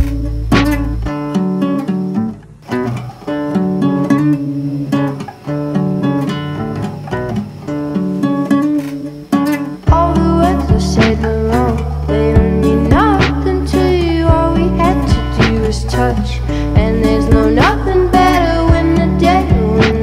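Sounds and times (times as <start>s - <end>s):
acoustic guitar playing: 0.0s - 20.0s.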